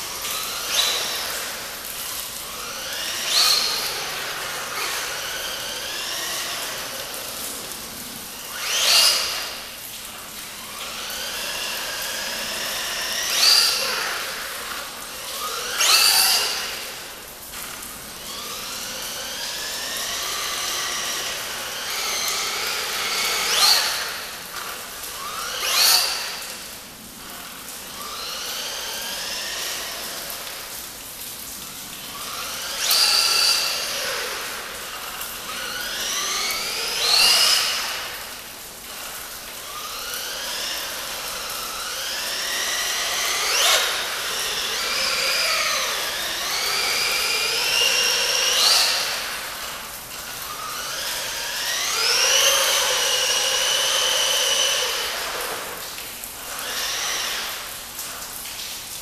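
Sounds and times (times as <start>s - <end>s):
rc truck motor revving: 0.0s - 31.0s, 31.6s - 58.2s.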